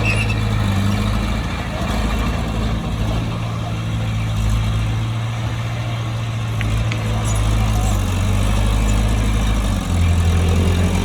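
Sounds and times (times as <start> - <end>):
bulldozer diesel engine droning: 0.0 - 11.0.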